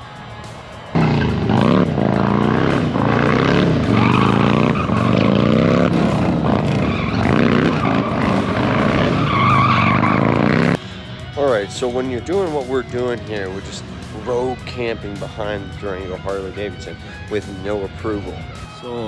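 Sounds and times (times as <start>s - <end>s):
motorcycle engine revving: 0.6s - 18.7s.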